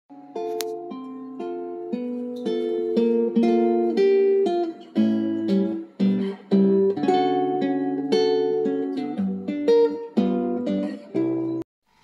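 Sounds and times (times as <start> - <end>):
acoustic guitar picking: 0.1 - 11.6.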